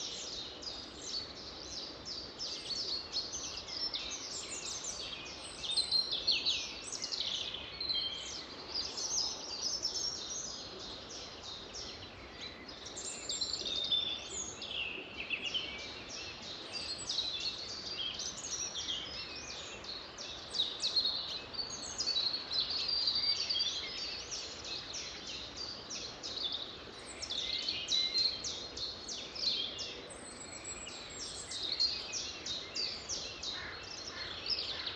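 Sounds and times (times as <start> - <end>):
faint background hiss: 0.0 - 34.9
songbirds singing: 0.0 - 34.9.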